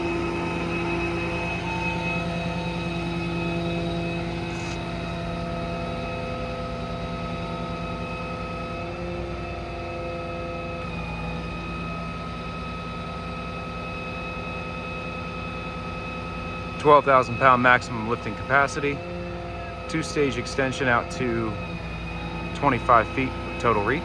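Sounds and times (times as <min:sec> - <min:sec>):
hydraulic whine: 0:00.0 - 0:24.0
truck engine drone: 0:00.0 - 0:24.0.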